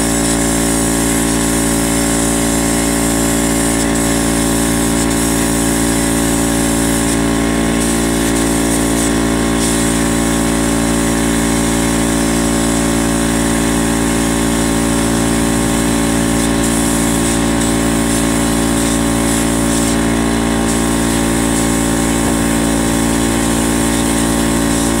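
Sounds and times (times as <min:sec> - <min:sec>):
air compressor motor hum: 0:00.0 - 0:25.0
spray gun air hissing: 0:00.0 - 0:25.0.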